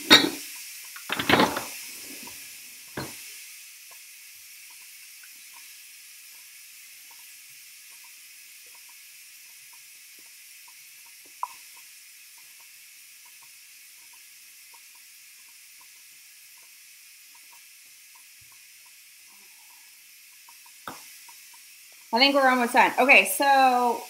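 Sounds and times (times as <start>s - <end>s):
pressure cooker steam hiss: 0.0s - 24.0s.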